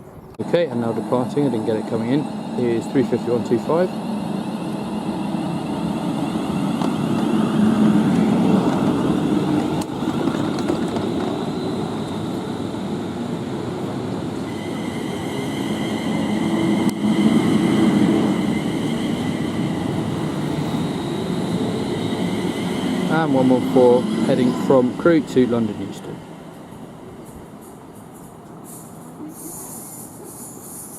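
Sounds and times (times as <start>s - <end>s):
train wheels rumbling: 0.0s - 30.9s.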